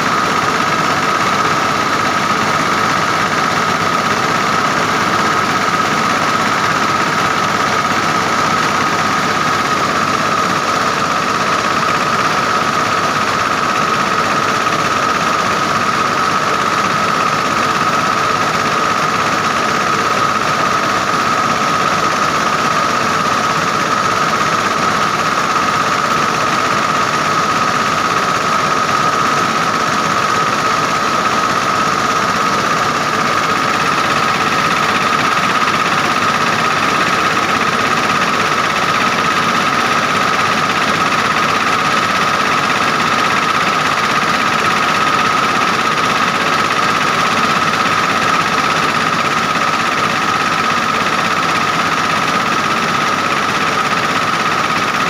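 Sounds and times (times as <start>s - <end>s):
rice mill machinery drone: 0.0s - 55.0s.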